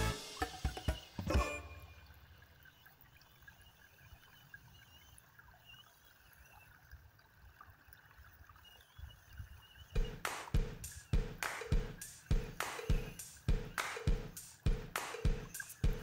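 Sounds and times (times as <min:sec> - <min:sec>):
stream trickling over stones: 0:00.2 - 0:16.0.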